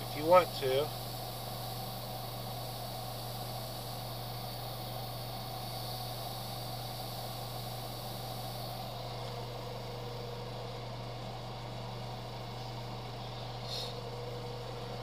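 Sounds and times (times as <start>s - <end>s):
spray booth fan hum: 0.0s - 15.0s.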